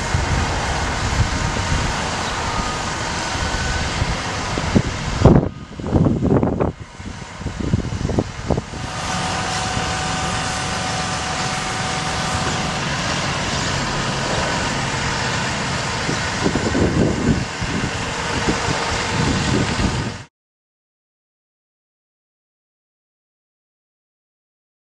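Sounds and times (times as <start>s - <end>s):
hydraulic whine: 0.0s - 20.3s
low rumbles: 0.0s - 20.3s
truck engine running: 0.0s - 20.3s.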